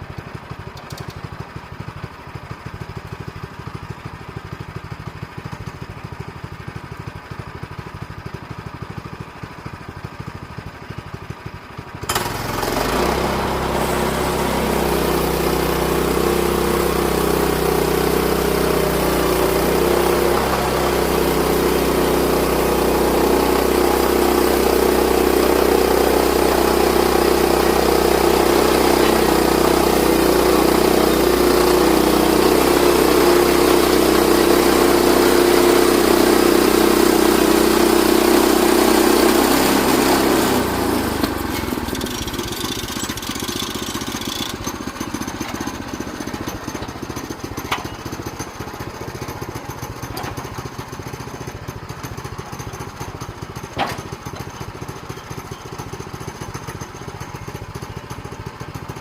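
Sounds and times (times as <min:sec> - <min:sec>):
gasoline engine running: 0:00.0 - 0:59.0.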